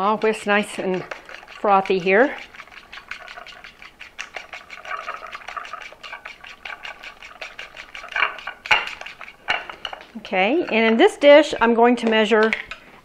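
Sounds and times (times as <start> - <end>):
whisk knocking dish: 0.0 - 12.8
whisk tapping ceramic dish: 0.0 - 12.8.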